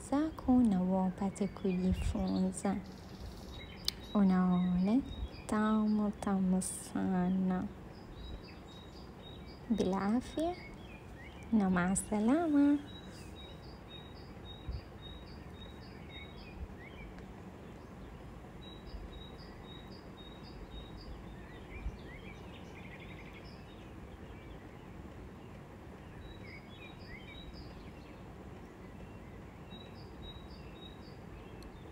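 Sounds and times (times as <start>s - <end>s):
birds chirping: 0.0s - 31.9s
low background noise: 0.0s - 31.9s.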